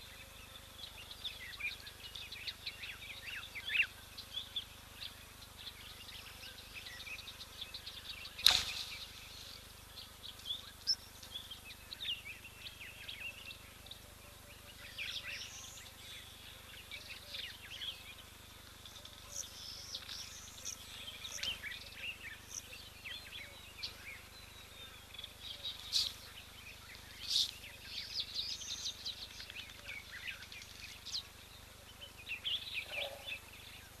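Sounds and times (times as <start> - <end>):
faint outdoor hiss: 0.0 - 34.0
small birds chirping: 0.0 - 34.0.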